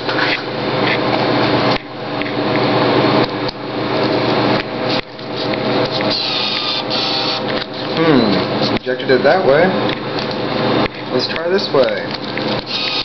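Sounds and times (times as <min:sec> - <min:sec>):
vending machine bill acceptor whir: 0:00.0 - 0:13.0.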